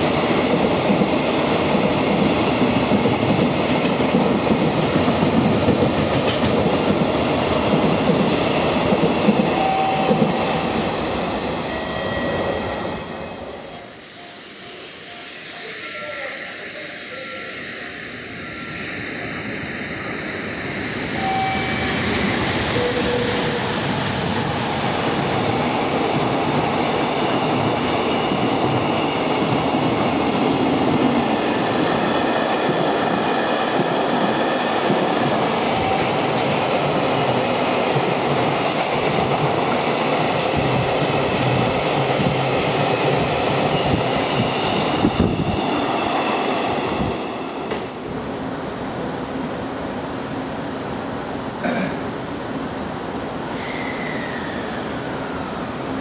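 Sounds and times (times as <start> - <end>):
train wheels rumbling on rails: 0.0 - 15.8, 16.4 - 48.3.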